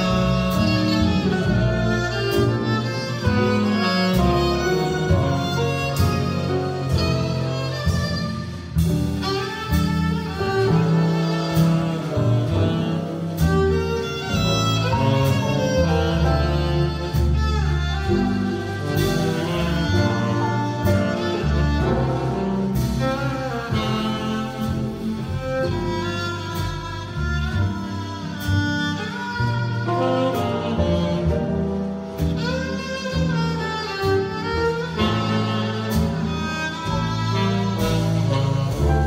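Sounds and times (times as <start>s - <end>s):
drums: 0.0s - 39.0s
piano: 0.0s - 39.0s
upright bass: 0.0s - 39.0s
violin: 0.0s - 39.0s.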